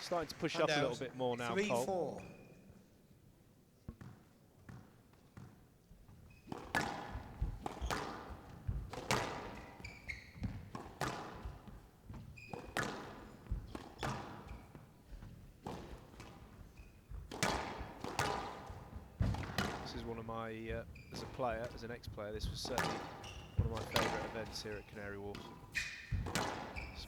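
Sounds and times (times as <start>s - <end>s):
squash ball knocking off rackets and walls: 3.9s - 27.0s.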